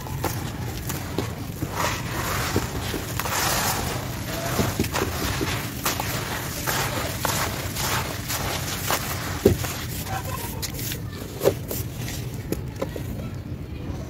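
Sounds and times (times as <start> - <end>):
grit sifting into bowl: 0.0 - 12.2
hands crumbling gritty chunks: 0.0 - 12.9.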